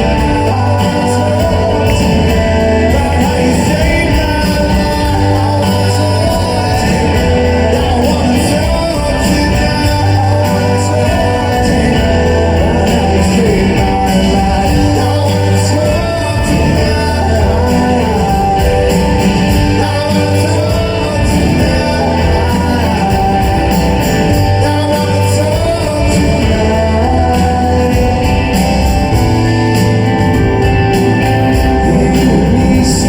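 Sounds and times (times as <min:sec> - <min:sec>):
live rock band with singing: 0:00.0 - 0:33.0.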